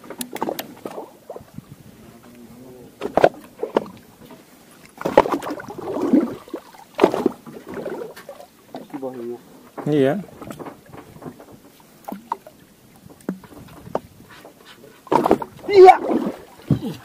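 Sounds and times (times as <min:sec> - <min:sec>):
knocks and splashes: 0:00.0 - 0:01.6, 0:02.9 - 0:17.0
waves slapping boat hull: 0:00.0 - 0:17.0.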